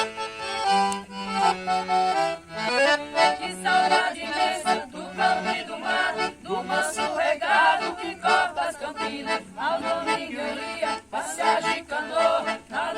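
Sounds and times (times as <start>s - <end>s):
accordion melody: 0.0s - 12.9s.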